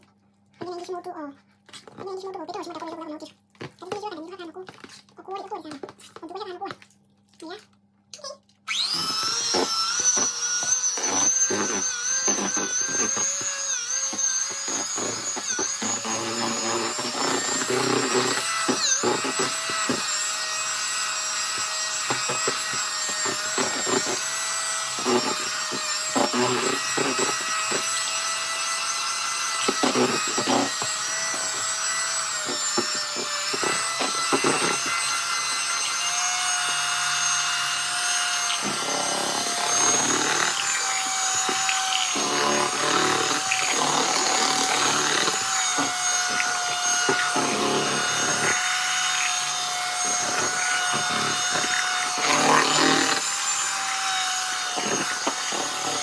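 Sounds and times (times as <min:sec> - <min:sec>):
electric hand mixer whining: 0:08.7 - 0:56.0.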